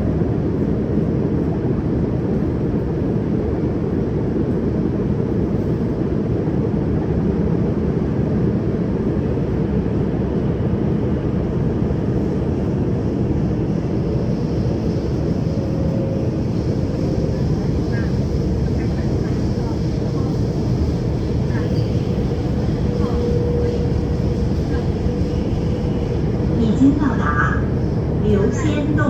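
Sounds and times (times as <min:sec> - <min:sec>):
metro train wheels rumbling: 0:00.0 - 0:29.0.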